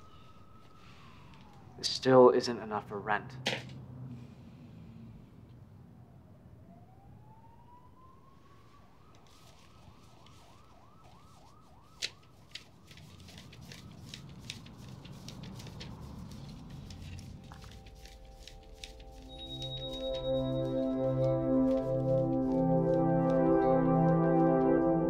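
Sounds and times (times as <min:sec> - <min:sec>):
faint siren wailing and yelping: 0:00.0 - 0:02.8, 0:05.2 - 0:25.0.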